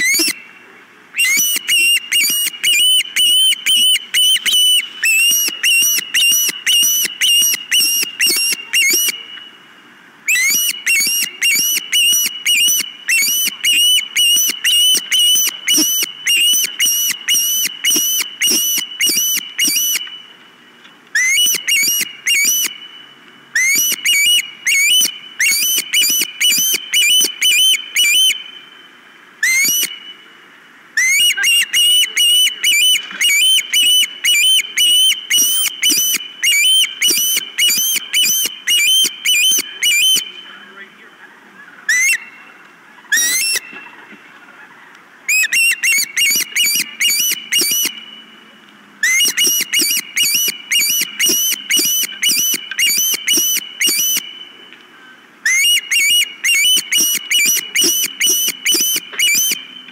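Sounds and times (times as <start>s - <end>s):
osprey whistled chirps: 0.0s - 44.3s, 45.2s - 59.9s.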